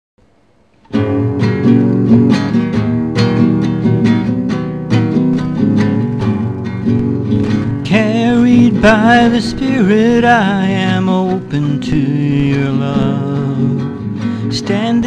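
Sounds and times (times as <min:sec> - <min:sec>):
acoustic guitar strumming chords: 0:00.7 - 0:15.0.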